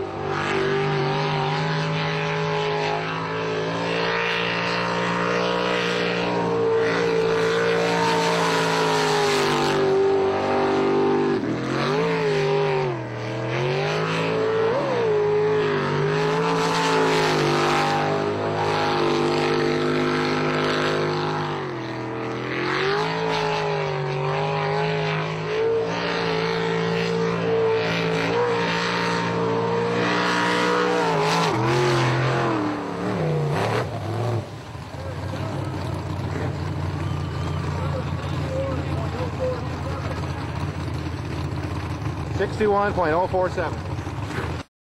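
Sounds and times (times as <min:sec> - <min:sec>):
boat engine revving: 0:00.0 - 0:44.7.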